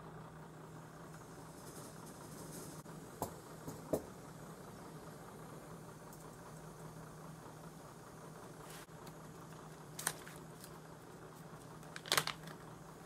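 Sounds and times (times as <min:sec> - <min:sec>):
gas stove burning hiss: 0:00.0 - 0:13.0
low hum: 0:00.0 - 0:13.0.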